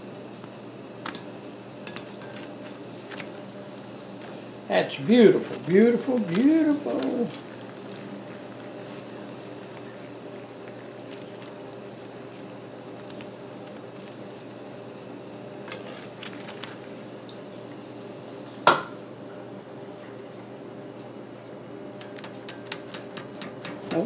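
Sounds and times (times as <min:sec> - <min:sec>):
oil bubbling and sizzling: 0:00.0 - 0:23.8.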